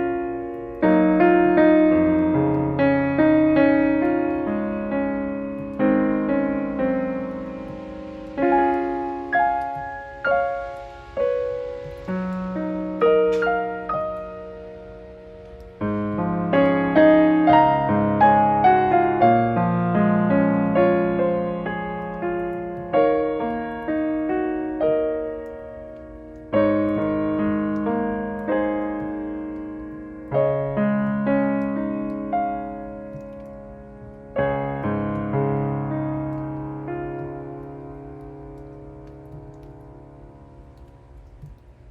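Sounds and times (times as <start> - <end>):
slow solo piano music: 0.0 - 41.9.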